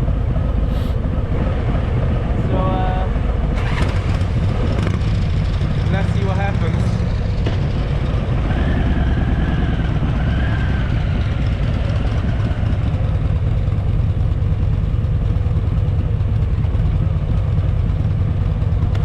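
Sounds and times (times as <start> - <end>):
motorcycle engine low rumble: 0.0 - 19.0.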